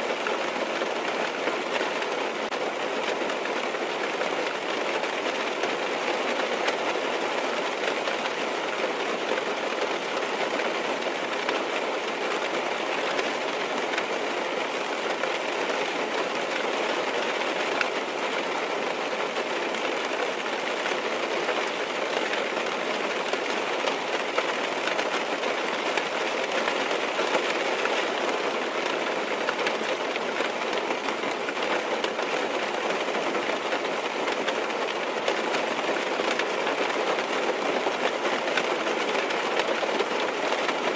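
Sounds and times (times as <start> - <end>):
rain on car roof: 0.0 - 40.9.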